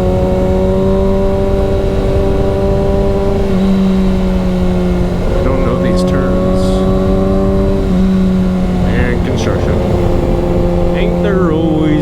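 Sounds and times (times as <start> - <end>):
low wind rumble: 0.0 - 12.0
motorcycle engine cruising: 0.0 - 12.0.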